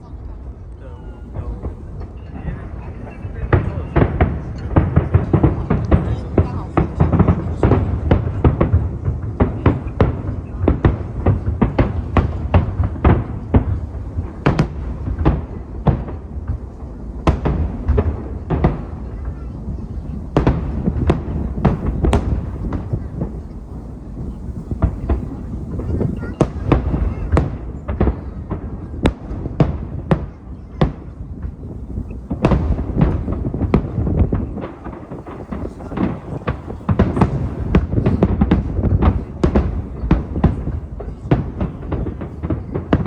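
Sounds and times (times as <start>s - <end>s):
firework shells bursting: 1.2s - 43.0s.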